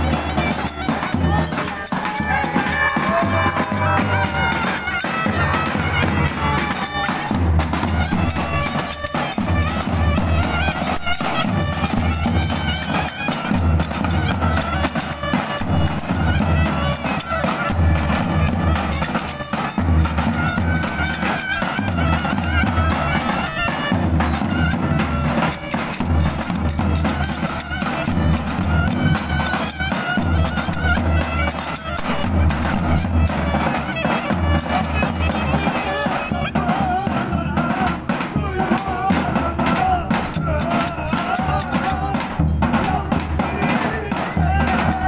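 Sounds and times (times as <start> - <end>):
clarinets playing reedy melody: 0.0 - 37.2.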